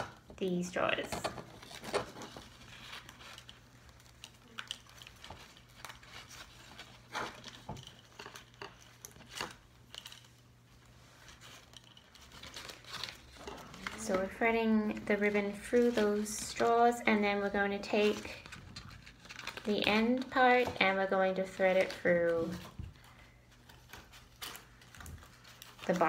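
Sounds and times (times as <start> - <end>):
ribbon and straws rustling: 0.0 - 26.0.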